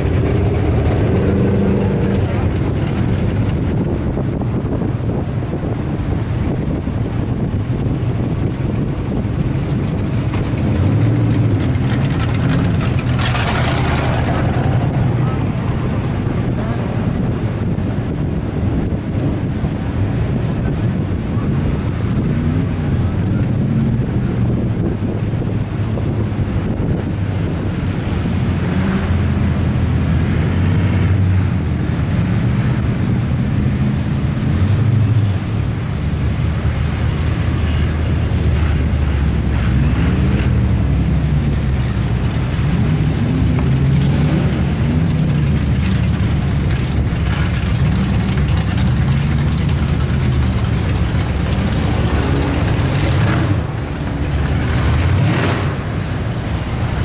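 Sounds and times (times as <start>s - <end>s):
off-road vehicle engine revving: 0.0s - 57.0s
rumble of driving noise: 0.0s - 57.0s.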